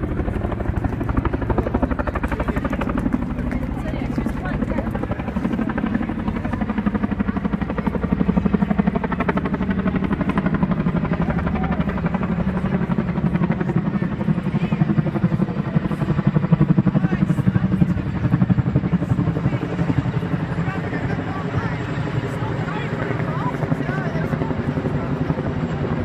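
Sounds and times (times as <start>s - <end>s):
helicopter rotor blades beating: 0.0s - 26.0s.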